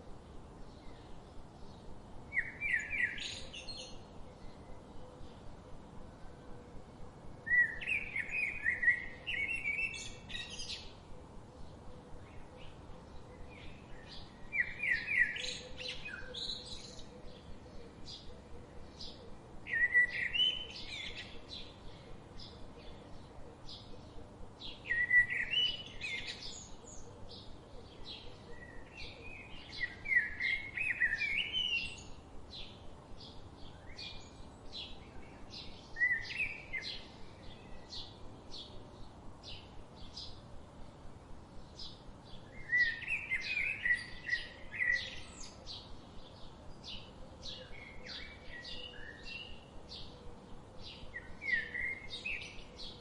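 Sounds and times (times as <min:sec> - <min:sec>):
songbirds chirping: 0:00.0 - 0:53.0
bird warbling song: 0:00.6 - 0:05.5, 0:07.4 - 0:40.5, 0:41.6 - 0:53.0.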